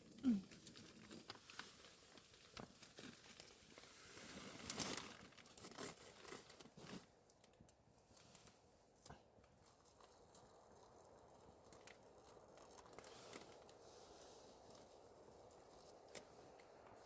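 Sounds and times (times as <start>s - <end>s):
plastic bag and foil crinkling: 0.0s - 8.6s, 9.5s - 17.0s.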